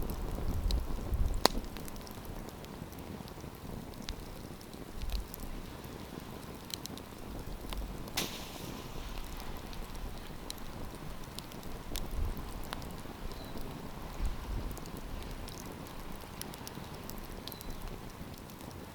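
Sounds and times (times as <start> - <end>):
campfire crackling: 0.0 - 18.9
fire popping: 0.0 - 18.9.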